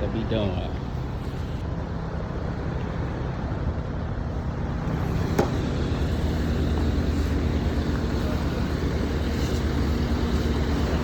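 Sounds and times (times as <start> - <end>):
heavy engine running steadily: 0.0 - 11.0.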